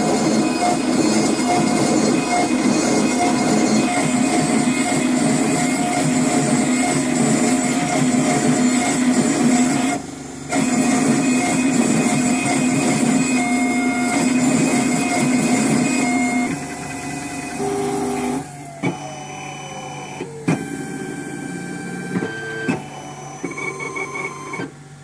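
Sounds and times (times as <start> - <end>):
milling machine grinding whine: 0.0 - 25.0.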